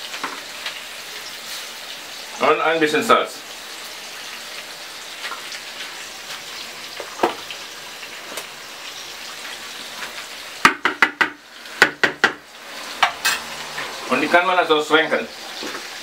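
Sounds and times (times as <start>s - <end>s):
steak sizzling in a pan: 0.0s - 16.0s.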